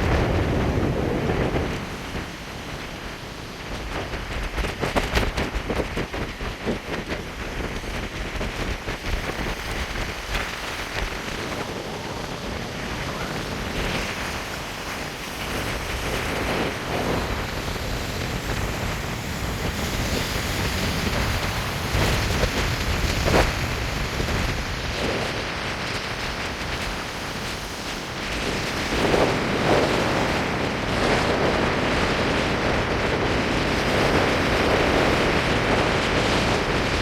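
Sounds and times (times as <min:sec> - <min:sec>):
surf breaking against pier: 0:00.0 - 0:37.0
wind buffeting microphone: 0:00.0 - 0:37.0.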